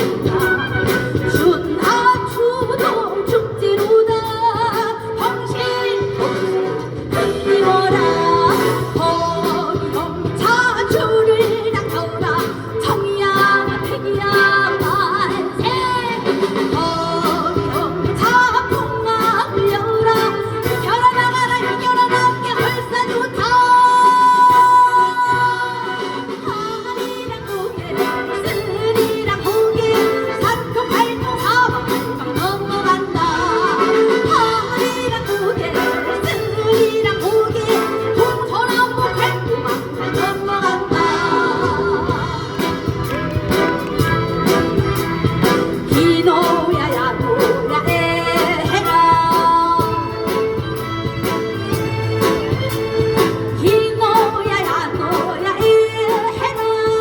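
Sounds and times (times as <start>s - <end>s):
upbeat band accompaniment: 0.0s - 57.0s
woman singing: 0.0s - 57.0s.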